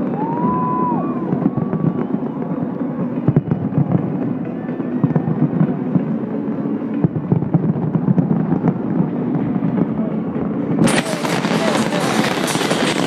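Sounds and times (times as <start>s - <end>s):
faint music: 0.0s - 13.0s
fireworks bangs and crackles: 0.0s - 13.0s.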